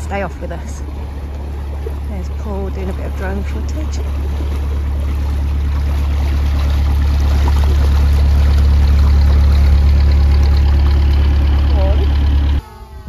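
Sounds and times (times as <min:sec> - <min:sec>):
boat engine running at low revs: 0:00.0 - 0:13.0
propeller churning water: 0:00.0 - 0:13.0.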